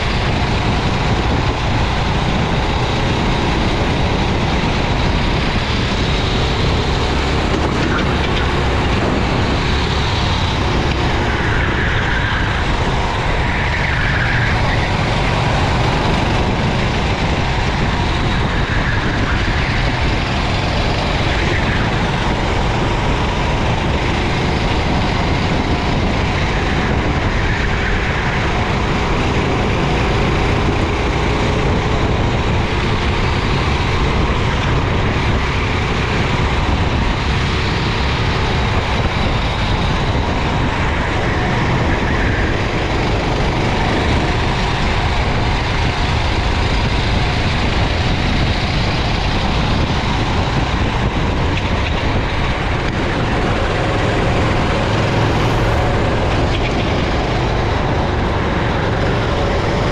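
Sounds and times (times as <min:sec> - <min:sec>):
kart engine revving: 0:00.0 - 0:59.9
loud steady rushing noise: 0:00.0 - 0:59.9.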